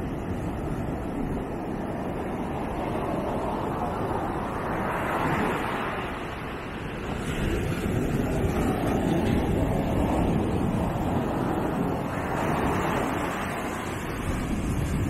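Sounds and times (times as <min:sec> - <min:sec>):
ocean waves breaking: 0:00.0 - 0:15.0
wind rumbling on microphone: 0:00.0 - 0:15.0.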